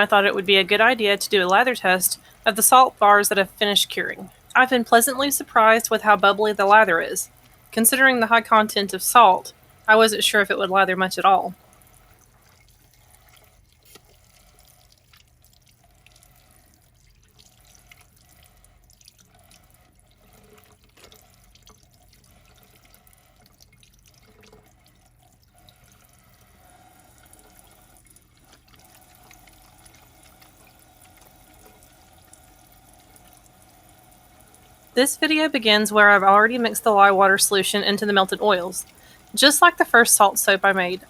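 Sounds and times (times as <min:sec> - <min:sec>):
water drips and splashes: 0:00.0 - 0:41.0
water running from tap: 0:00.0 - 0:41.0.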